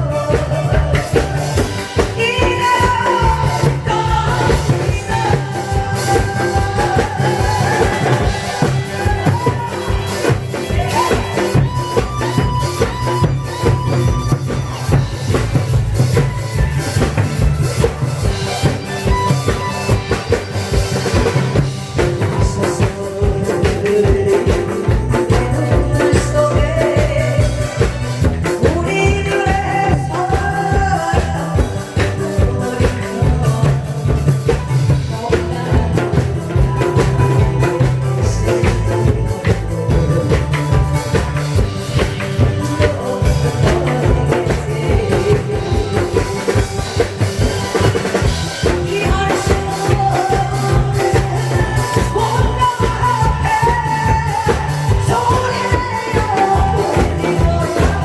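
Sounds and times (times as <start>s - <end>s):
upbeat song over sound system: 0.0s - 58.0s.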